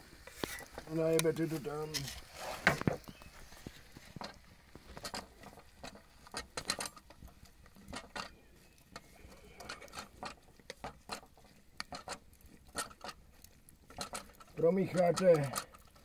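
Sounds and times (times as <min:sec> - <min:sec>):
crackles and pops from cauldron: 0:00.0 - 0:16.0.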